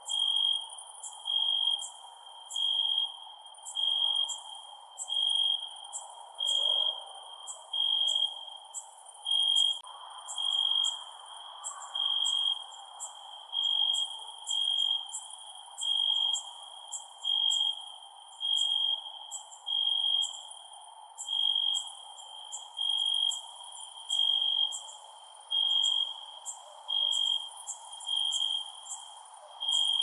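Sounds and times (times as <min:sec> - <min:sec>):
cricket trilling: 0:00.0 - 0:30.0
insects chirping: 0:00.0 - 0:30.0.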